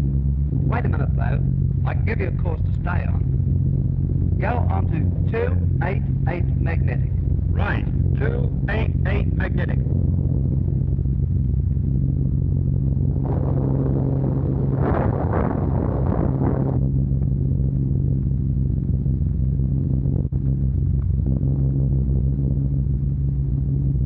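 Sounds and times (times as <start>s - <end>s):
aircraft engines droning: 0.0s - 24.0s
pulsing rushing noise: 0.0s - 24.0s.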